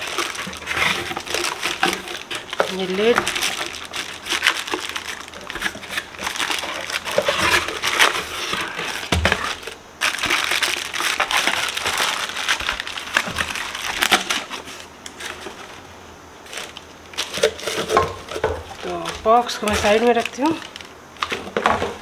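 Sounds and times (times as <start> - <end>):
cardboard scraping: 0.0 - 22.0
plastic bags crinkling: 0.0 - 22.0.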